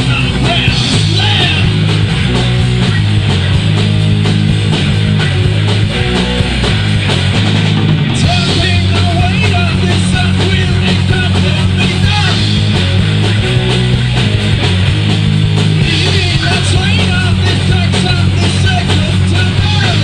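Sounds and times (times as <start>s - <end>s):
heavy metal band playing: 0.0s - 20.0s
lead guitar bending notes: 0.0s - 20.0s.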